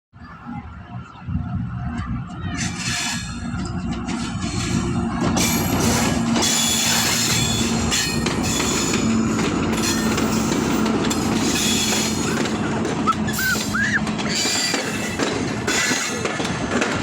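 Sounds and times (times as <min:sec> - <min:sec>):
train wheels rumbling and clattering: 0:00.9 - 0:17.0.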